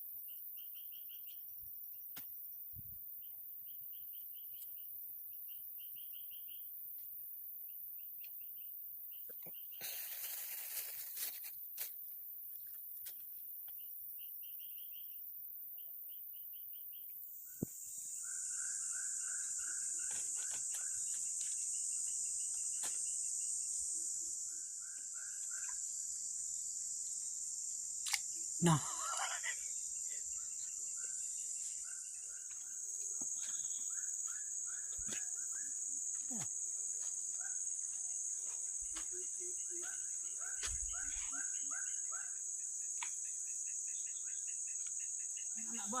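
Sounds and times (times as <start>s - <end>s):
high insect drone: 0.0s - 46.0s
high insect hiss: 0.0s - 46.0s
insect chirping calls: 0.0s - 46.0s.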